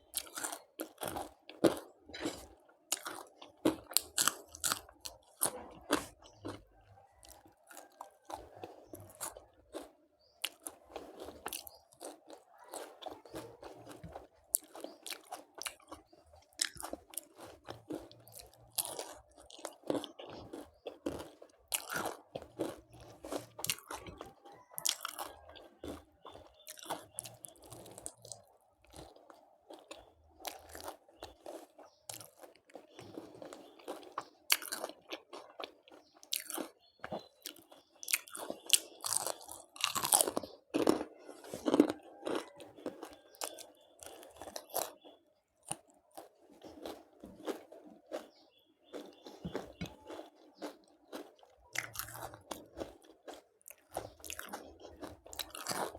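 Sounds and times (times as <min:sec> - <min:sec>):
person chewing crunchy food: 0:00.0 - 0:55.9.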